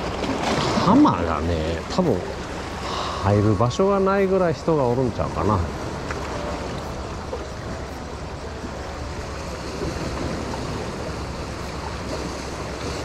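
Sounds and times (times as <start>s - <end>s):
waves washing against rocks: 0.0s - 13.0s.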